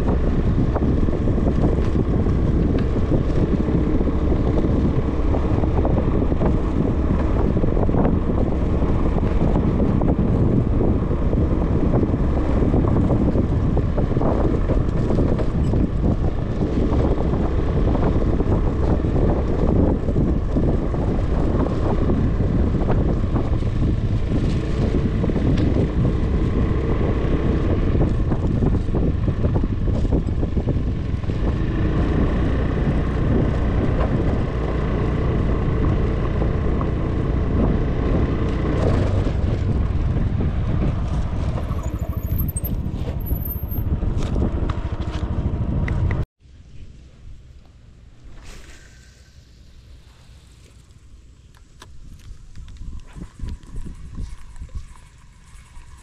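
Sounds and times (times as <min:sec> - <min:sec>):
motorcycle engine on dirt road: 0:00.0 - 0:56.0
wind buffeting microphone: 0:00.0 - 0:56.0.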